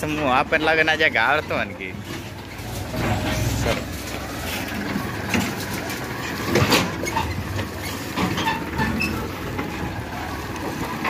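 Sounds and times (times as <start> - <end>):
tractor diesel engine running: 0.0 - 11.0
trailer rattling and knocking: 0.0 - 11.0.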